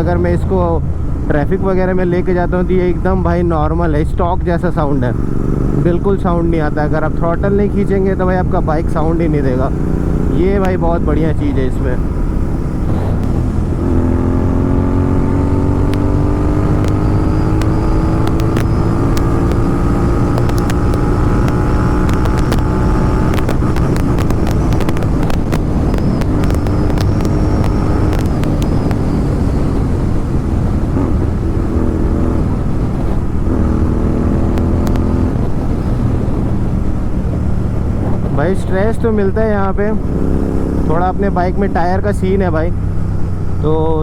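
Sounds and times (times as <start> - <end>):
motorcycle engine revving: 4.8 - 44.0.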